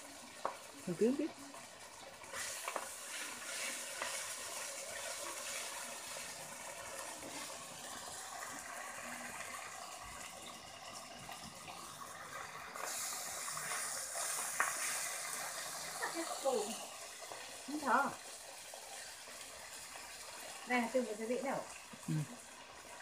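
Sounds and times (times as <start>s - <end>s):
fish frying in hot oil: 0.0s - 23.0s.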